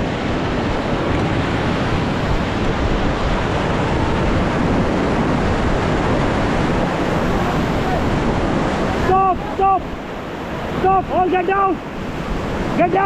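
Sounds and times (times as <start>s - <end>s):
wind noise on microphone: 0.0s - 11.1s, 11.8s - 13.0s
river rapids rushing: 0.0s - 13.0s.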